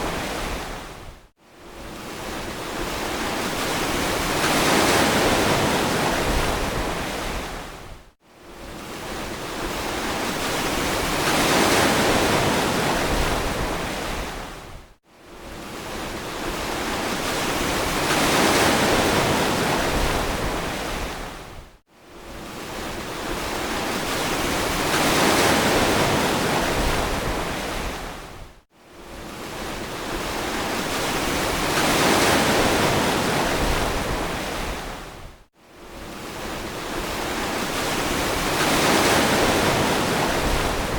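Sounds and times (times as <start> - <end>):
ocean waves washing onto beach: 0.0 - 7.8, 8.6 - 14.8, 15.4 - 21.6, 22.2 - 35.2, 35.8 - 40.9.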